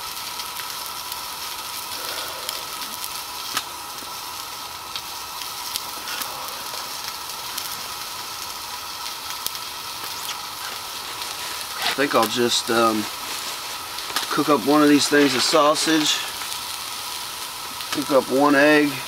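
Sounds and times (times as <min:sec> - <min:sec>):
sausage sizzling in a skillet: 0:00.0 - 0:19.0.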